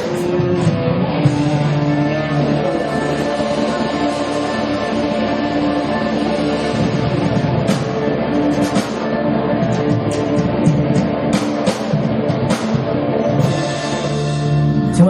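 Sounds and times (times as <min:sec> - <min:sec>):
sustained guitar notes: 0:00.0 - 0:15.0.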